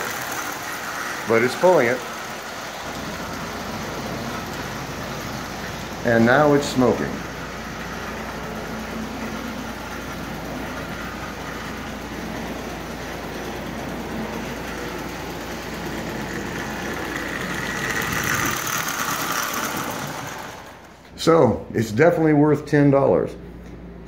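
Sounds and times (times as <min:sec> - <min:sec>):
toy train running on metal track: 0:00.0 - 0:21.0.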